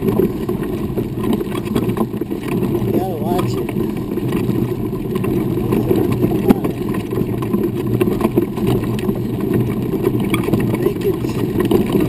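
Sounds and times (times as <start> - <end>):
wheels rumbling over gravel: 0.0 - 12.0.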